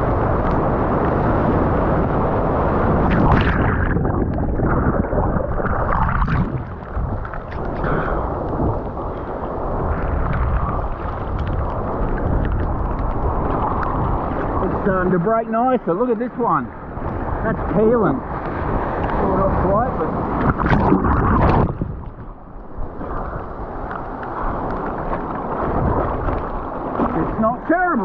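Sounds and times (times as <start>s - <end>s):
water splashing: 0.0s - 15.5s, 17.0s - 28.0s
wind buffeting microphone: 0.0s - 28.0s.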